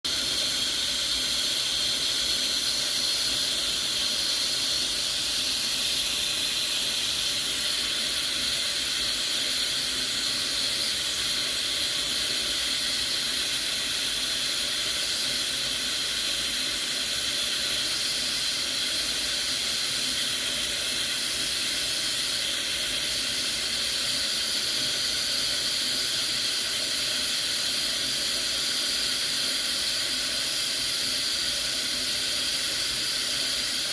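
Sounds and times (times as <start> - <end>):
pressure cooker hissing: 0.0 - 33.9.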